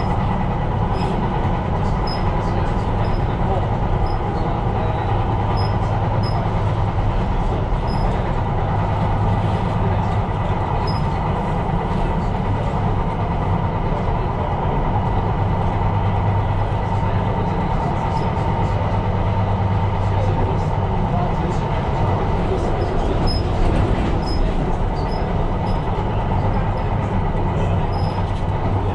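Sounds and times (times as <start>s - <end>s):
train rumbling on rails: 0.0s - 28.9s.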